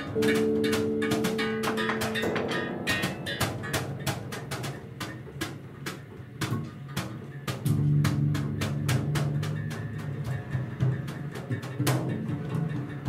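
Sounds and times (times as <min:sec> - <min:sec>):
sharp percussive guitar hits: 0:00.0 - 0:11.0.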